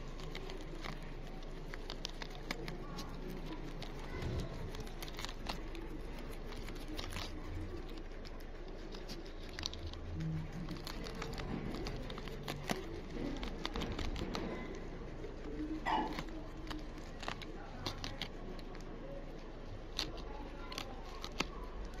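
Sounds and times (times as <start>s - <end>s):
faint low hum: 0.0s - 22.0s
hamster clicks and rustles: 0.0s - 22.0s.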